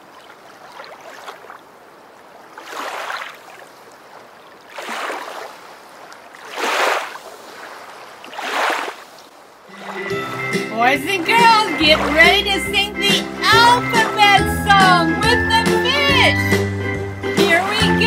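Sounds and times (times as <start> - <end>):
water splashing: 0.0 - 16.4.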